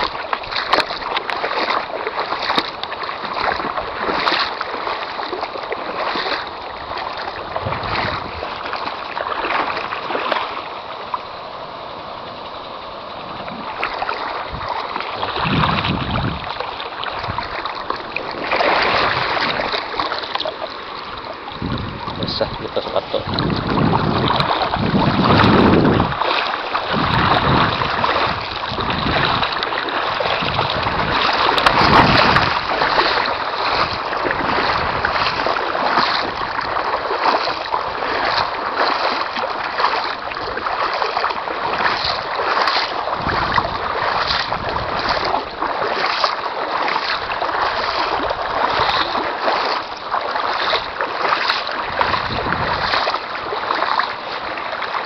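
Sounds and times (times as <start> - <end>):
water sloshing and splashing: 0.0 - 55.0.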